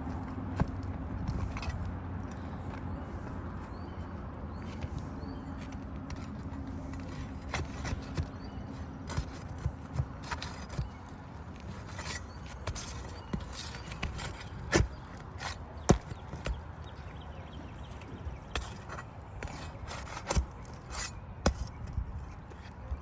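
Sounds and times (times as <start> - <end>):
scrapes and knocks on roof shingles: 4.5 - 23.0.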